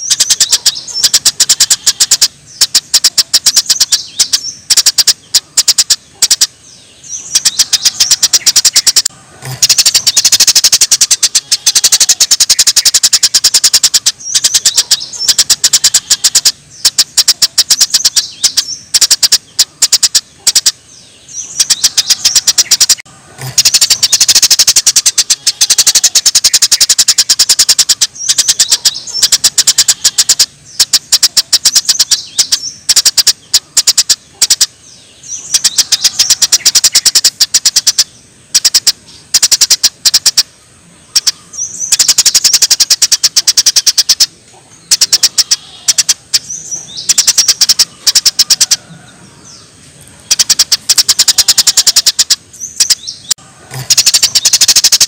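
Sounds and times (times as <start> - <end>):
songbird trilling: 0.0 - 55.0.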